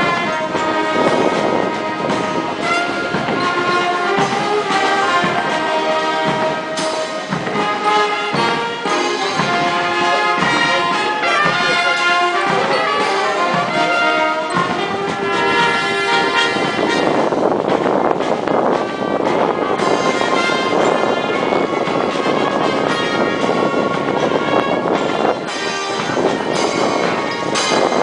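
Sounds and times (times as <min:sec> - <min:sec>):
military band playing a march: 0:00.0 - 0:28.0.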